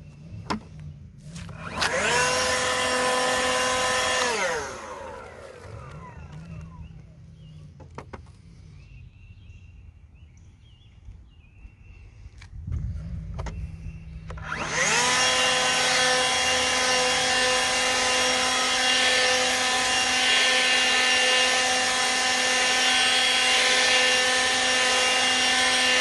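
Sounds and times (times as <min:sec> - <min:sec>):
leaf blower fan whine: 0:00.0 - 0:26.0.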